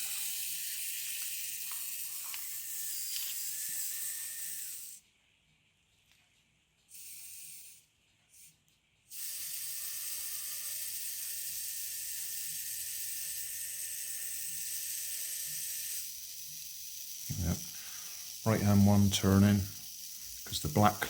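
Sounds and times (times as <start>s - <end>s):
toy car gear motors whirring: 0.0s - 5.0s, 6.9s - 21.0s.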